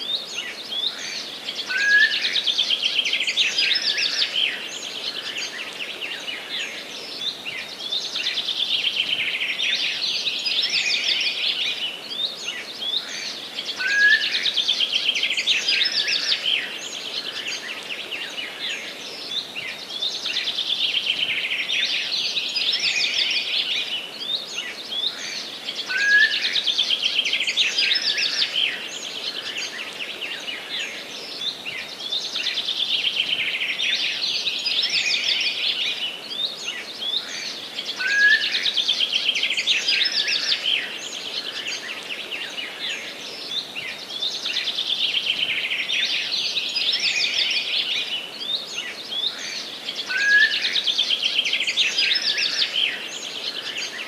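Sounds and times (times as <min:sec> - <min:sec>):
steady background hiss: 0:00.0 - 0:54.0.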